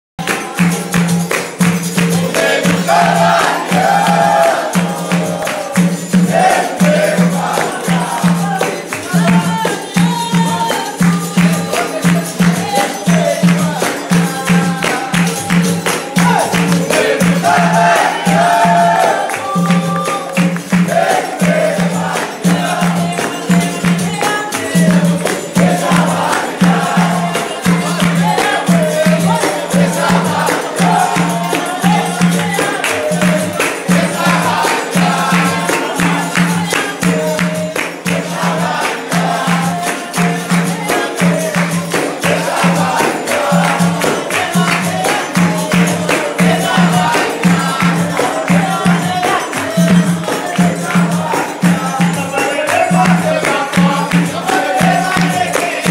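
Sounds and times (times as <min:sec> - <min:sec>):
berimbau and pandeiro rhythm: 0:00.2 - 0:55.9
group singing: 0:00.2 - 0:55.9
people clapping in time: 0:00.2 - 0:55.9.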